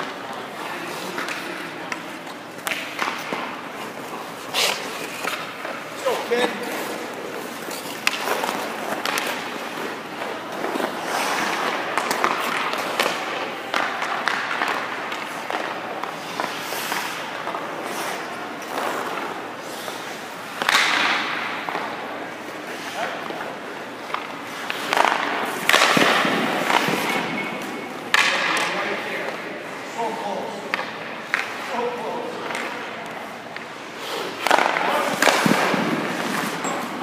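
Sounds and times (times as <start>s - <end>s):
skates scraping on ice: 0.0s - 37.0s
stick hitting puck: 1.0s - 29.4s, 30.7s - 37.0s.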